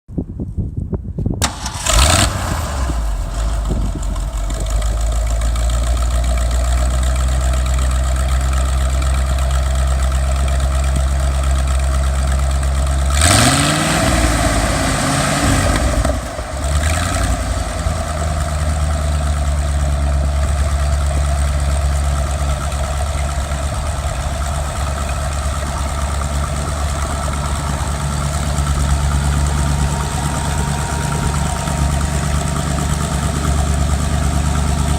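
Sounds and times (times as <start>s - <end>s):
engine revving: 1.4s - 7.9s, 12.6s - 34.9s
engine starting and idling: 1.4s - 34.9s.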